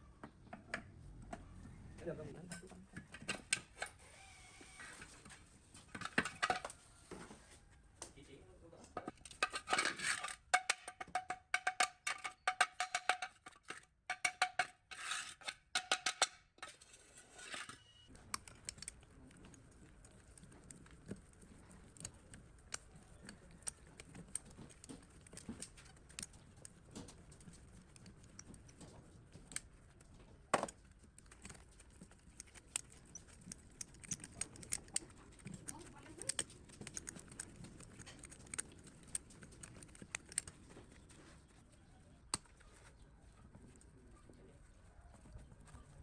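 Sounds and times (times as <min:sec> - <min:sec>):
metal parts and hand tools clicking: 0:04.9 - 0:06.9, 0:09.0 - 0:43.9.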